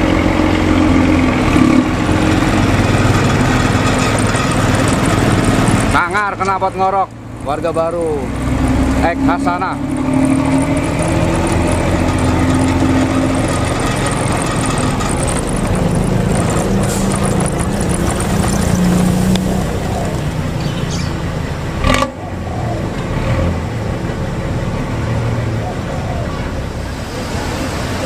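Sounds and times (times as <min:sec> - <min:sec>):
bus engine with snoring exhaust: 0:00.0 - 0:28.0.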